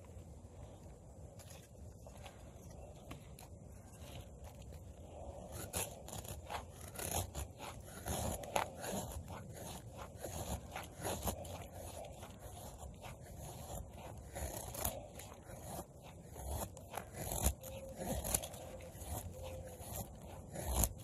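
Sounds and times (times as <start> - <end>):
knife scraping wood shavings: 1.3 - 21.0.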